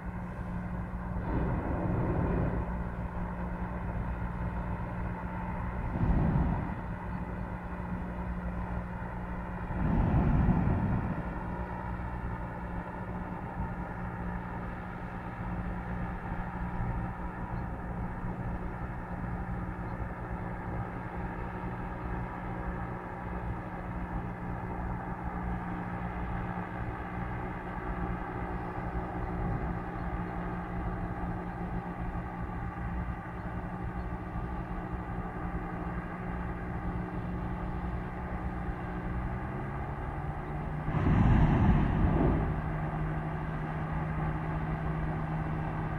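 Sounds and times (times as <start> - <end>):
propeller engines droning: 0.0 - 45.9.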